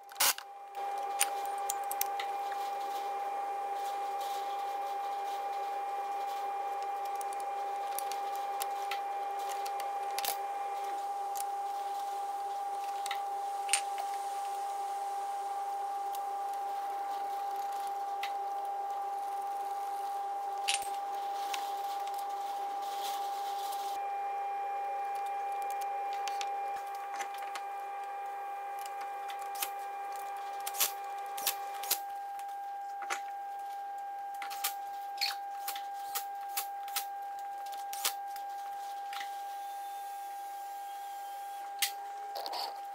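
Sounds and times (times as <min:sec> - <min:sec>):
steady machine hum: 0:00.0 - 0:42.9.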